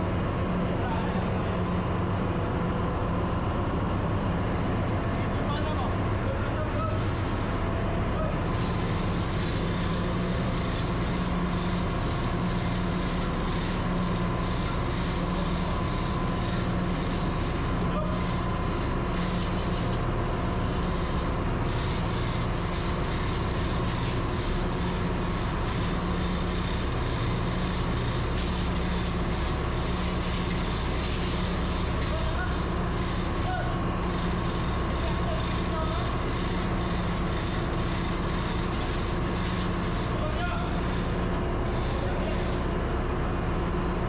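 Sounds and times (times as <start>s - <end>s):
engine room machinery drone: 0.0s - 44.0s.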